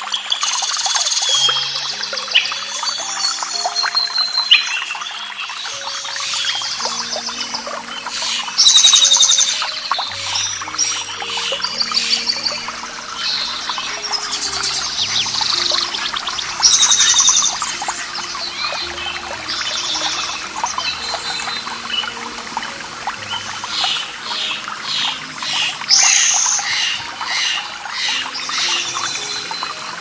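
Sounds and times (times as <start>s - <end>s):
birds singing: 0.0s - 30.0s
water trickling and splashing: 0.0s - 30.0s
loud high bird call: 1.4s - 22.1s, 23.3s - 29.6s.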